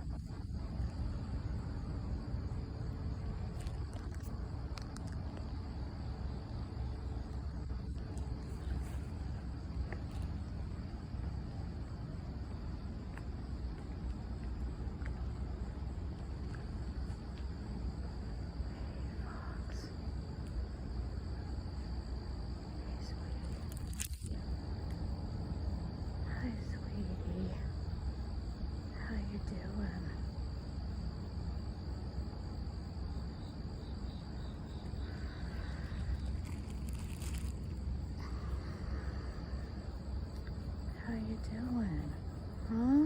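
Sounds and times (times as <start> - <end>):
crickets chirping: 0.0 - 43.0
steady low rumble: 0.0 - 43.0.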